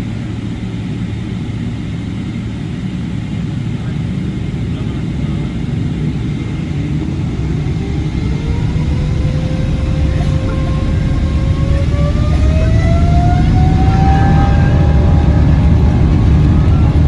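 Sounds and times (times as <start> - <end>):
jet engines spooling up: 0.0 - 17.0
rising engine whine: 0.0 - 17.0.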